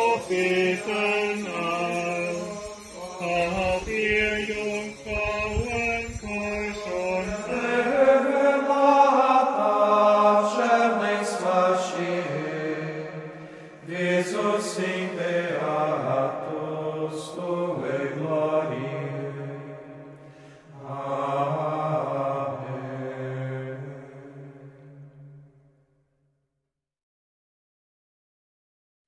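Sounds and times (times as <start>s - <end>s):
voices singing a slow hymn: 0.0s - 25.5s.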